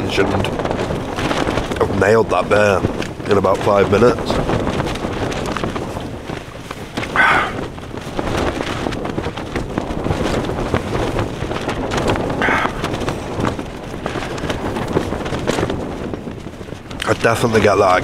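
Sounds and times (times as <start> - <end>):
tent fabric flapping and snapping: 0.0 - 18.0
wind roaring: 0.0 - 18.0.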